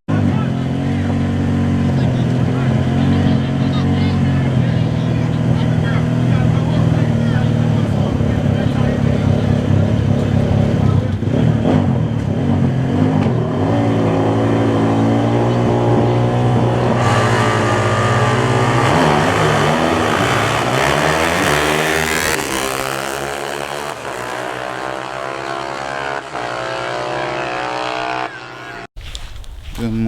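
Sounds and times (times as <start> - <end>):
drag racing car engine: 0.1 - 28.9.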